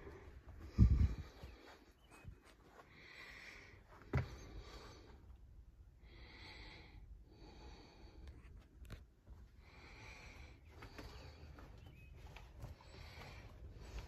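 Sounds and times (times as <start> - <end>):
person breathing: 0.0 - 14.0.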